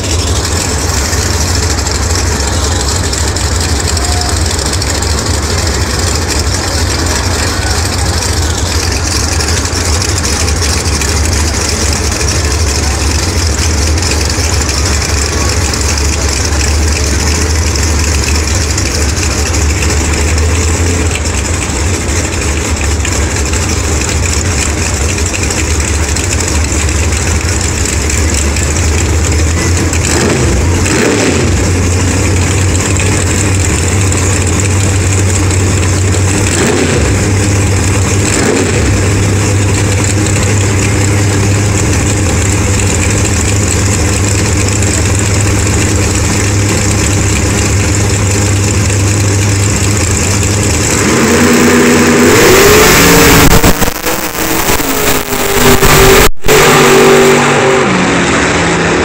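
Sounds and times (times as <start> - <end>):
drag race car engines rumbling: 0.0 - 59.0
engine rev: 0.0 - 59.0.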